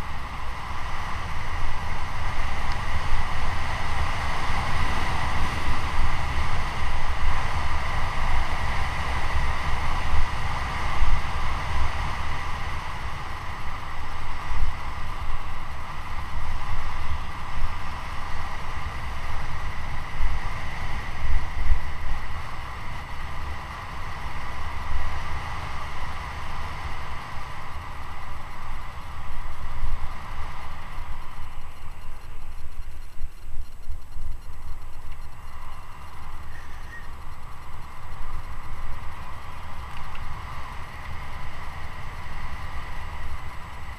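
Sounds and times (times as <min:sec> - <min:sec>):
bike tyres humming on road: 0:00.0 - 0:43.9.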